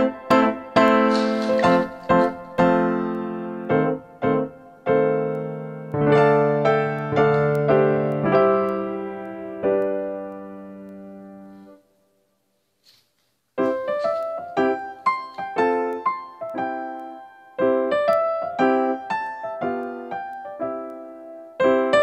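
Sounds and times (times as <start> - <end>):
slow keyboard piano tune: 0.0 - 12.2, 13.6 - 22.0.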